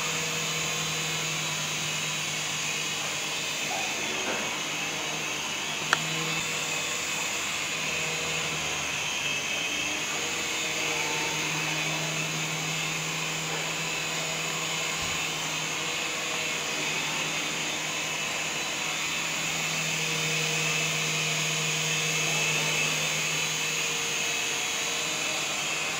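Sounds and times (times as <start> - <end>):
toy helicopter whirring: 0.0 - 25.9.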